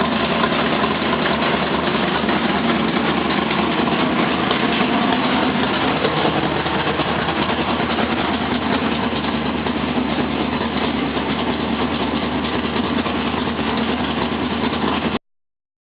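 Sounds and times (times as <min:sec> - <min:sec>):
truck engine idling: 0:00.0 - 0:15.2.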